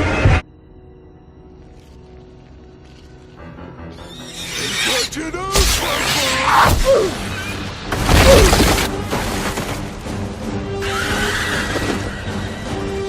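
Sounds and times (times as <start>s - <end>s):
film score music: 0.0s - 13.0s.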